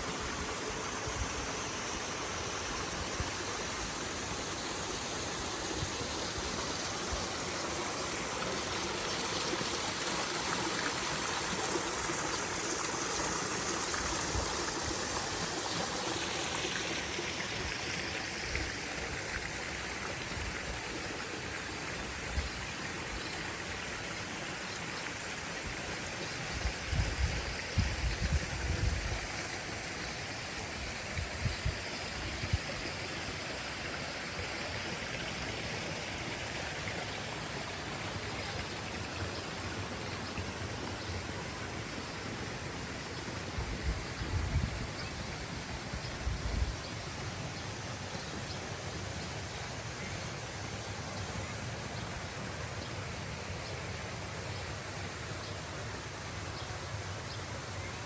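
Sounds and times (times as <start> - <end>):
stream of water running: 0.0 - 58.0.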